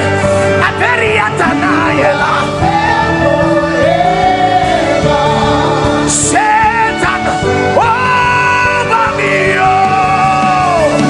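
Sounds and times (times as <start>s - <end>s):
instrumental backing music: 0.0s - 11.0s
person singing with vibrato: 0.0s - 11.0s.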